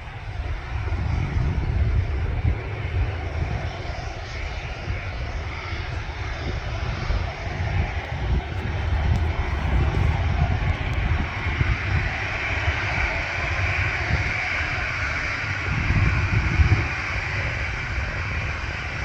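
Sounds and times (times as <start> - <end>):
airliner engines running: 0.0 - 19.0.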